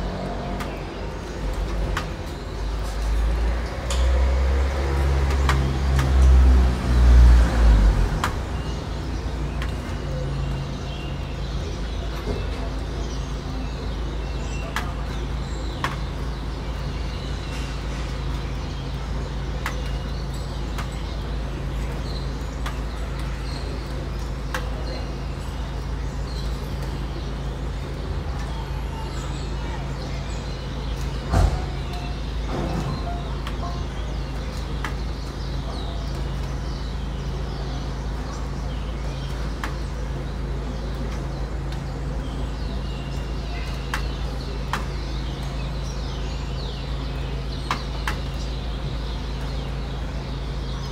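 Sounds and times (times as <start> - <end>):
distant traffic rumble: 0.0 - 50.9
starlings chirping: 0.0 - 50.9.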